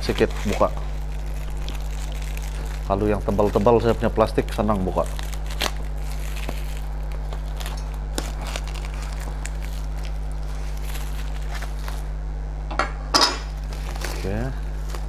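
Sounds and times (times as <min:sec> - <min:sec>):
plastic parcel crackling: 0:00.0 - 0:12.2, 0:13.5 - 0:15.0
low mains hum: 0:00.0 - 0:15.0.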